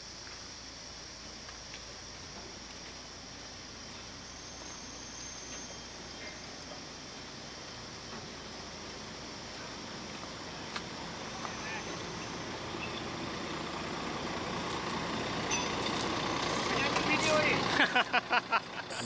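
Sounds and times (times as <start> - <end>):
low hum: 0.0 - 17.8
high-pitched insect drone: 0.0 - 19.0.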